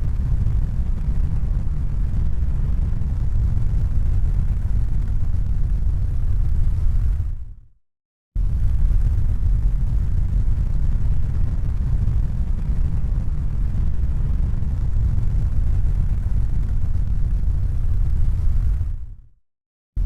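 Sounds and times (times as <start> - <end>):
loud low rumbling noise: 0.0 - 7.6, 8.4 - 19.3.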